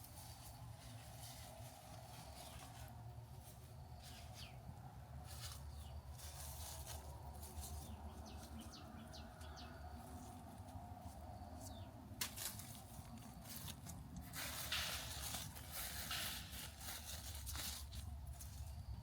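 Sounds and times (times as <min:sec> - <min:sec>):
rustles: 0:00.0 - 0:04.6, 0:05.2 - 0:19.0.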